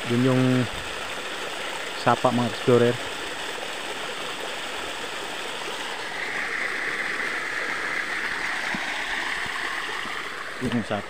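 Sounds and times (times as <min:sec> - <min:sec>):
creek splashing over stones: 0:00.0 - 0:11.0.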